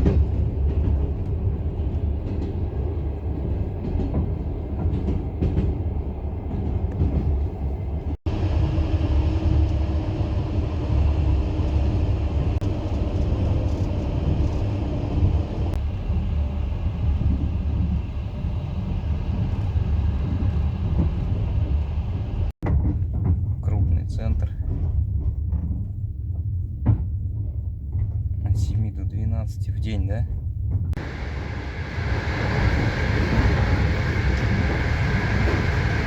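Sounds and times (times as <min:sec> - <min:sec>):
train wheels rumbling on track: 0:00.0 - 0:28.9, 0:30.2 - 0:36.0.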